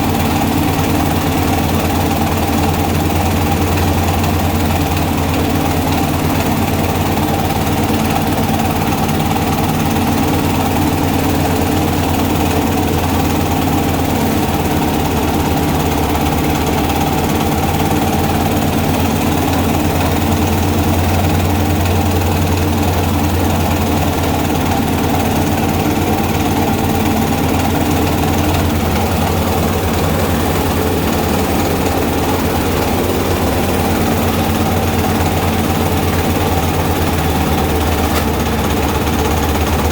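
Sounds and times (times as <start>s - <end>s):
engine-driven grinding mill running: 0.0s - 39.9s.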